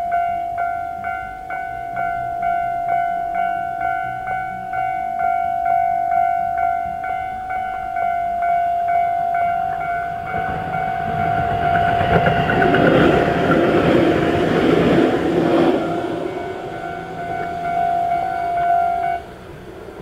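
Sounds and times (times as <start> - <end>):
electric train passing: 0.0 - 20.0
level-crossing warning bell: 0.0 - 20.0.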